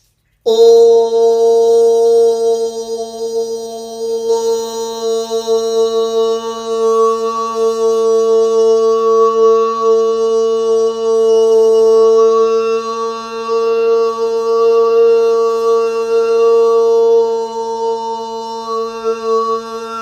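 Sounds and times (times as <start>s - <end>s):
sustained musical drone: 0.5s - 20.0s.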